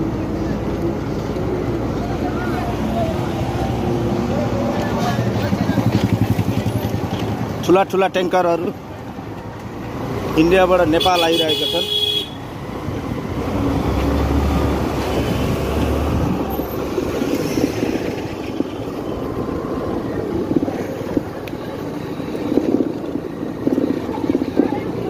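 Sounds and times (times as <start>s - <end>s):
motorcycle engine and road noise: 0.0s - 25.0s
trucks and buses passing: 0.0s - 25.0s.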